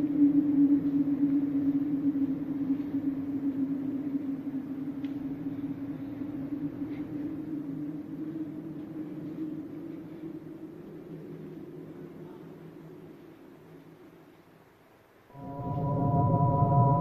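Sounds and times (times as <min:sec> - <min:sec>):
low hum: 0:00.0 - 0:14.5, 0:15.3 - 0:17.0.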